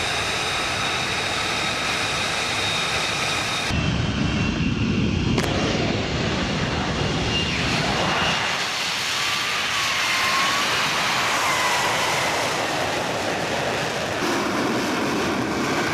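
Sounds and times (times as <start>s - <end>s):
jet engine roaring: 0.0s - 15.9s.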